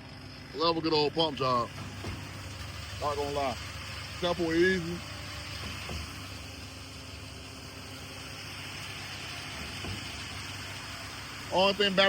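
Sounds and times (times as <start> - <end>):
constant hiss: 0.0 - 12.0
diesel truck engine idling: 0.0 - 12.0.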